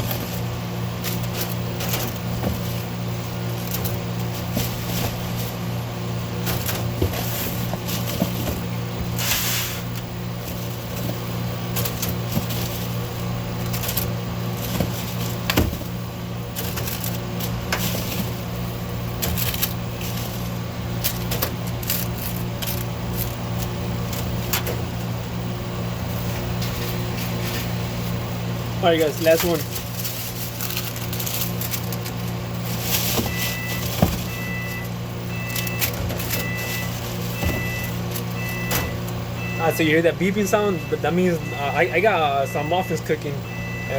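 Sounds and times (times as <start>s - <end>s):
kitchen machinery humming: 0.0s - 43.9s.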